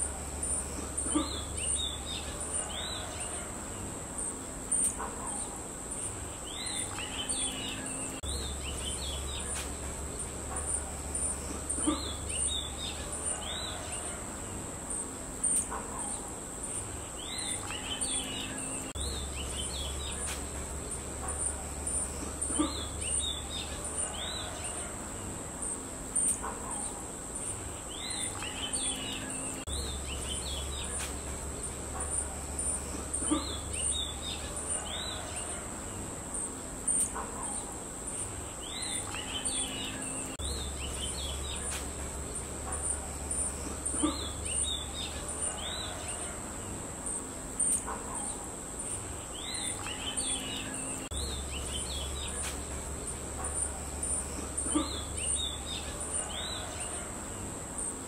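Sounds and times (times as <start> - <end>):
small birds chirping: 0.0 - 58.0
steady high-pitched hiss: 0.0 - 58.0.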